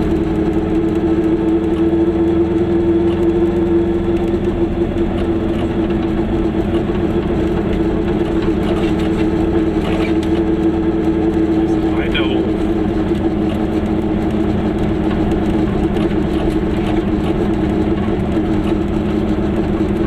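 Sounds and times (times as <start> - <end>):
two-stroke engine running steadily: 0.0 - 20.0.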